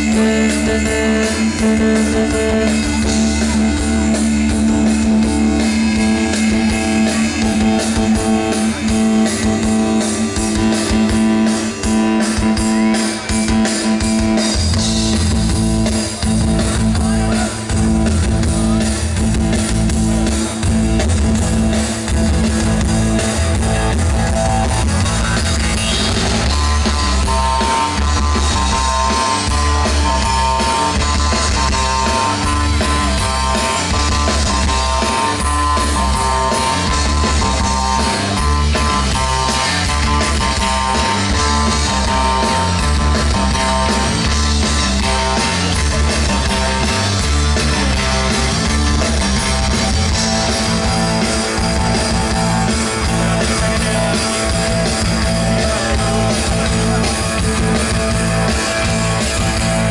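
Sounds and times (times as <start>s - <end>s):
bass and drums beat: 0.0s - 59.9s
live rock band playing: 0.0s - 59.9s.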